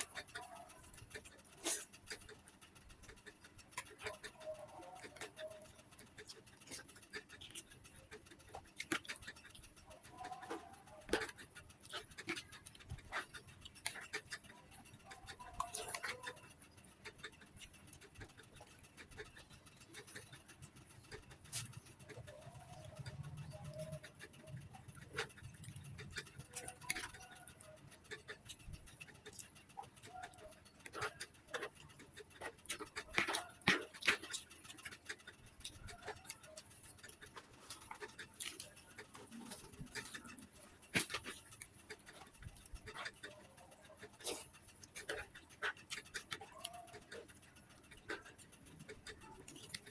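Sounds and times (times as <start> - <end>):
chewing and mouth noises: 0.0 - 49.9.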